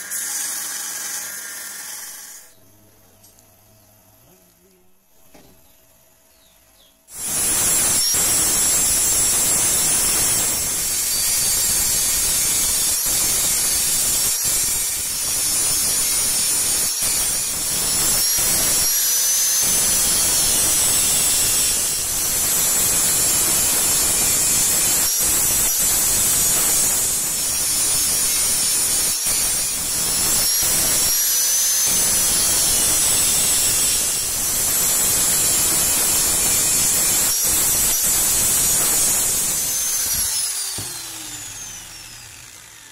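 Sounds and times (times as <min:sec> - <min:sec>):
angle grinder grinding steel: 0:00.0 - 0:02.6, 0:07.1 - 0:42.9.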